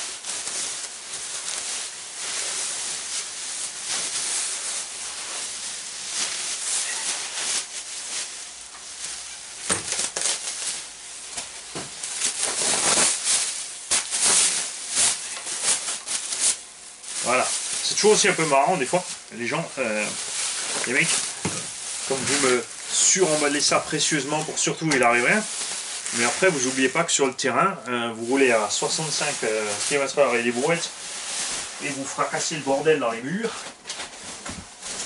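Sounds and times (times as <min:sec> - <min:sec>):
bubble wrap rustling and crinkling: 0:00.0 - 0:35.0.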